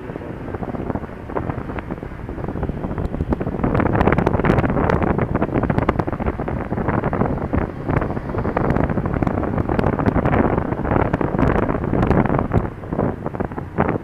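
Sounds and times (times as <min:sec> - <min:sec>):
crackles and bumps: 0:00.0 - 0:14.0
wind buffeting microphone: 0:00.0 - 0:14.0.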